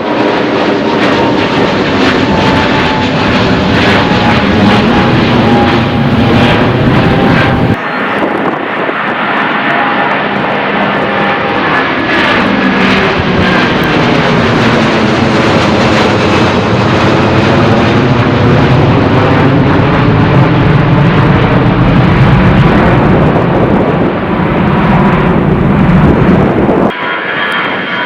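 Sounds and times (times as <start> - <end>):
jet engine roar: 0.0 - 28.0
deep rumble: 0.2 - 9.9, 10.5 - 26.9.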